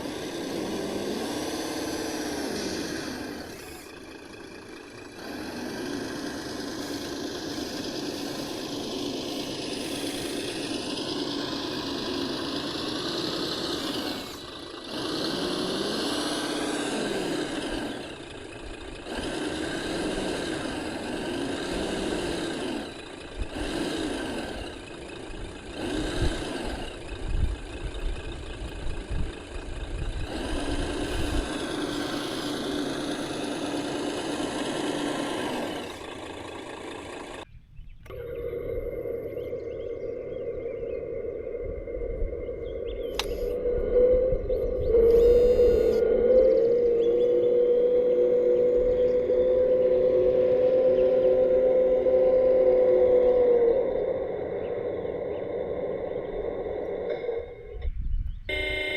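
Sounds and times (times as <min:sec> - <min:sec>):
motor and gear whine: 0:00.0 - 0:58.9.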